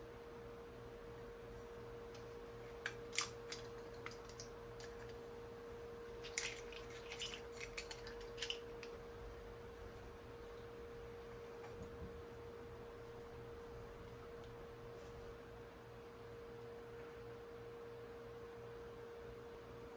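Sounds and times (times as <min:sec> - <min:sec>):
steady hum: 0:00.0 - 0:19.9.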